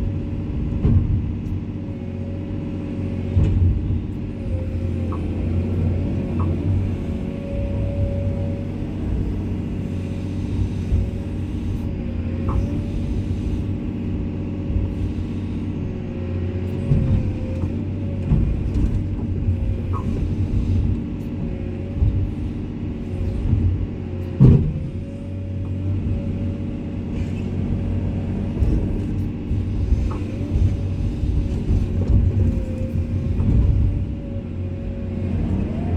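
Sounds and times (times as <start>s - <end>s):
excavator diesel engine running: 0.0s - 35.9s
hydraulic whine: 0.0s - 35.9s.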